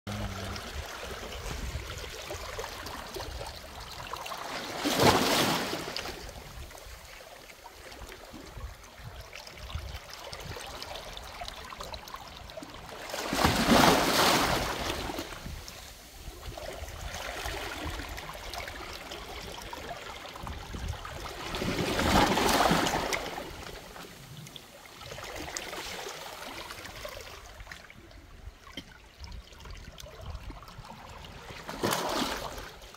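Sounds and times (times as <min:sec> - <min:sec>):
sea waves washing among boulders: 0:00.1 - 0:28.0, 0:30.7 - 0:32.9
water lapping and trickling: 0:00.1 - 0:32.9.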